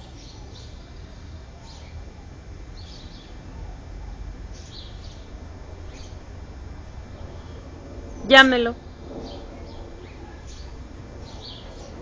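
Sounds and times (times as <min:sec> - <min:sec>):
small birds chirping: 0:00.0 - 0:06.4, 0:07.1 - 0:12.0
steady low rumble: 0:00.0 - 0:12.0.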